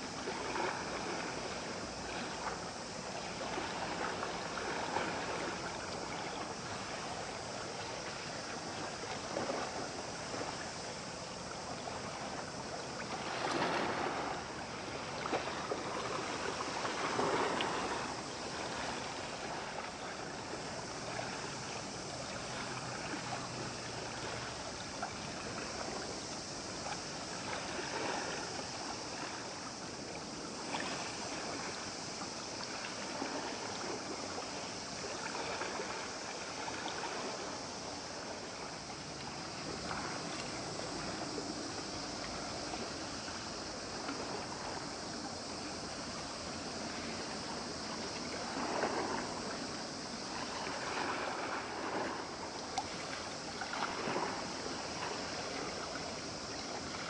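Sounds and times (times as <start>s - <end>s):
water washing on shore: 0.0s - 57.0s
wind: 0.0s - 57.0s.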